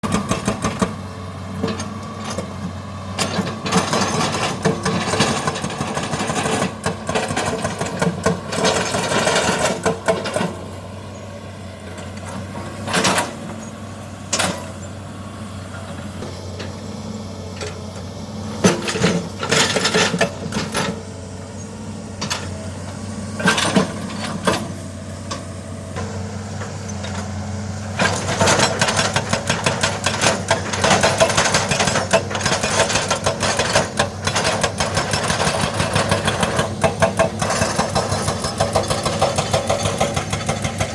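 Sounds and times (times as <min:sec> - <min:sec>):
low engine hum: 0:00.0 - 0:40.9.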